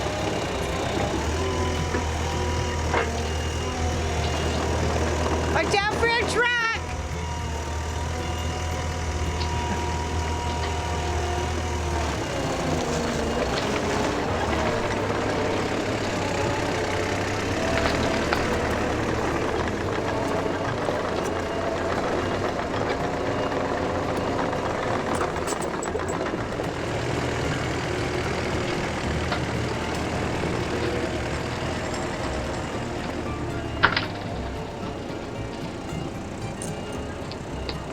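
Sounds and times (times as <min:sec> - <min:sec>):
skid steer engine running: 0:00.0 - 0:37.9.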